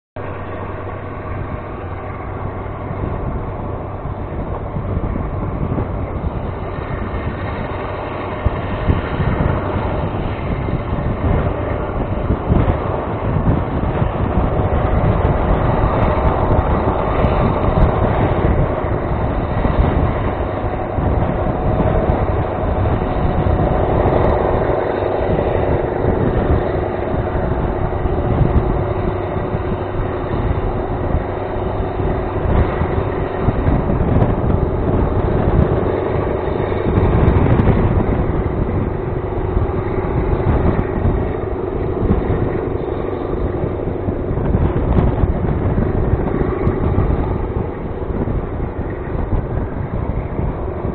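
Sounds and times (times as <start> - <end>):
train wheels on track: 0.2 - 50.9
wind on microphone: 0.2 - 50.9.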